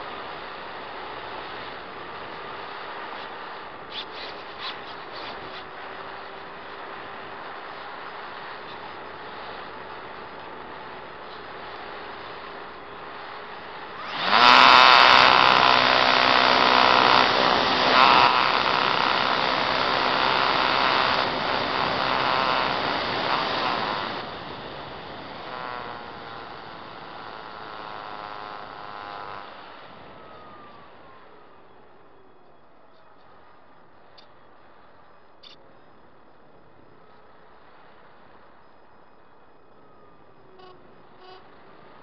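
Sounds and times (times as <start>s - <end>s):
electric motor and propeller whine: 0.0s - 42.0s.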